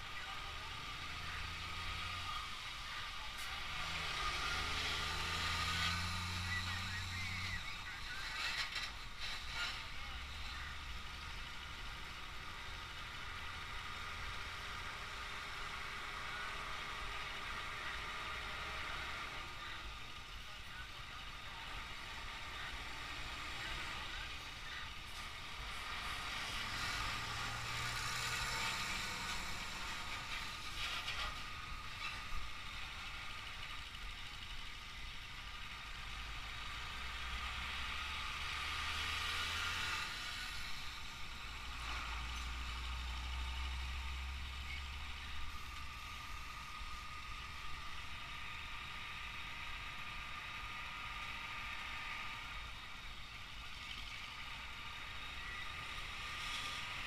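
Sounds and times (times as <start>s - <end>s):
diesel truck engines rumbling: 0.0s - 57.0s
traffic noise: 0.0s - 57.0s.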